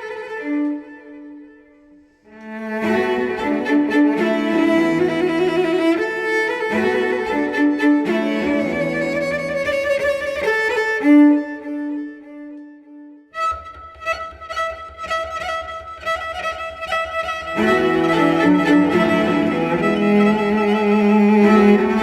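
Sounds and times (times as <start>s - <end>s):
bowed string music: 0.0s - 22.0s.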